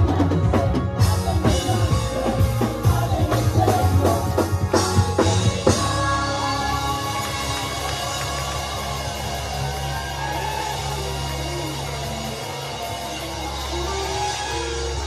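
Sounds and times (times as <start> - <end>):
drum kit with cymbals: 0.0 - 15.0
worship band playing: 0.0 - 15.0.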